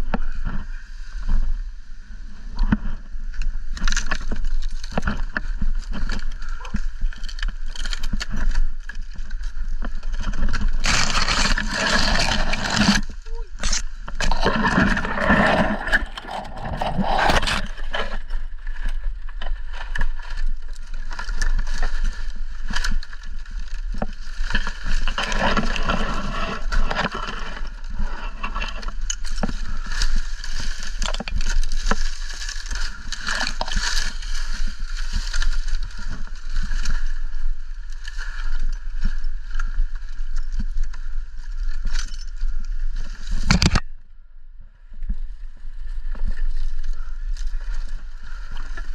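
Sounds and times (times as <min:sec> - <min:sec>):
dry palm fronds rustling: 0:00.0 - 0:43.9, 0:44.9 - 0:48.9.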